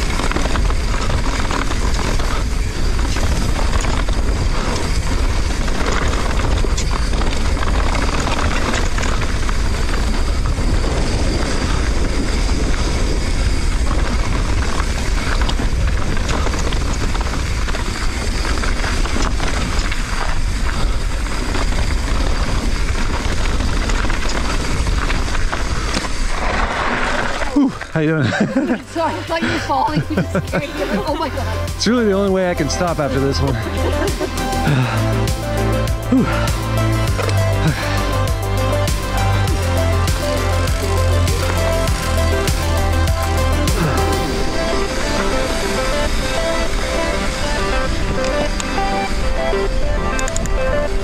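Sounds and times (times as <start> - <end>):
bike rattling clicks: 0.0 - 28.0, 31.4 - 48.8, 49.4 - 51.0
tyres rolling over dirt: 0.0 - 51.0
wind buffeting microphone: 0.0 - 51.0.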